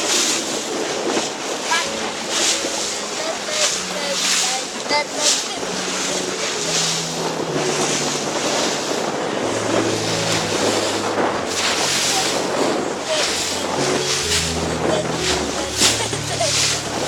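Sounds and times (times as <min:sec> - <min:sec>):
boat engine hum: 0:00.0 - 0:17.0
rushing wind and water: 0:00.0 - 0:17.0.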